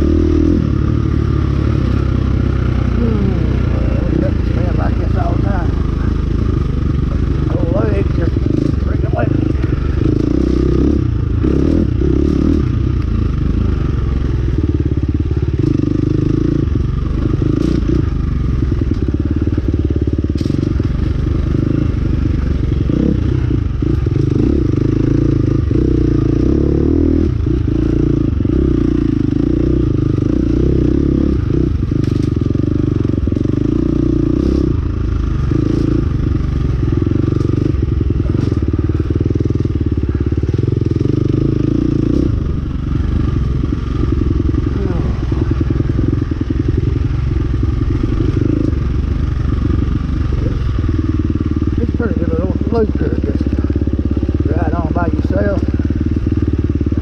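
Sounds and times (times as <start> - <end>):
vehicle engine drone: 0.0 - 57.0.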